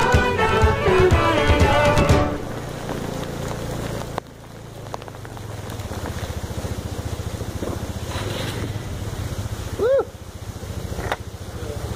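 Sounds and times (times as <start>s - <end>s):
rain and wind hiss: 0.0s - 11.9s
small motorbike engine running: 0.0s - 11.9s.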